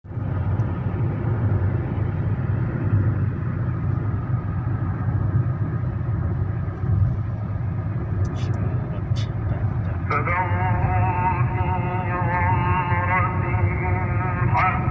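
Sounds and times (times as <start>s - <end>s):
vehicle engine and road noise: 0.0s - 14.9s.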